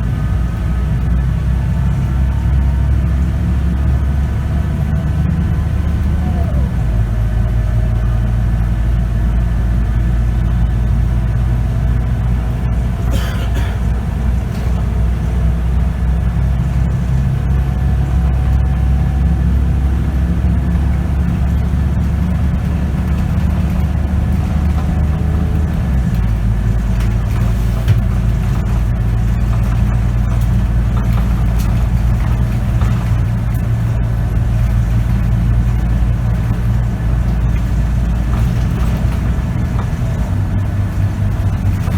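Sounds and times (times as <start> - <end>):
bus engine running: 0.0 - 41.9.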